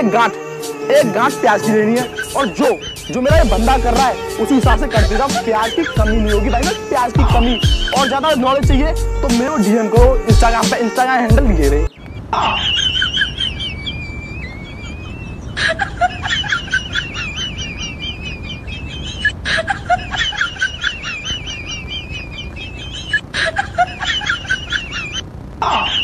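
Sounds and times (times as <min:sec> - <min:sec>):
high warbling bird-like chirps: 0:01.6 - 0:08.7, 0:11.8 - 0:26.0.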